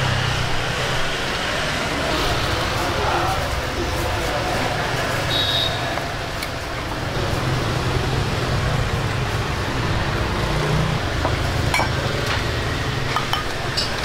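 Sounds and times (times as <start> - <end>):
busy kitchen rumble: 0.0 - 14.0.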